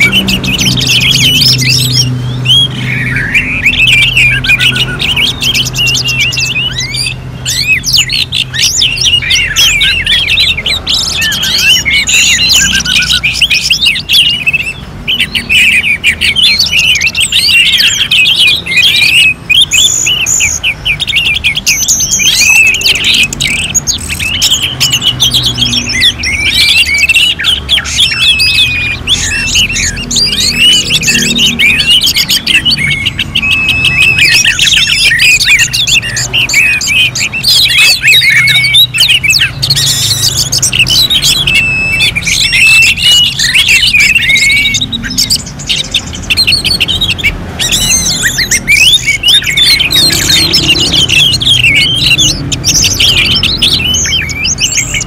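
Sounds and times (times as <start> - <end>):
thrushes singing: 0.0 - 55.0.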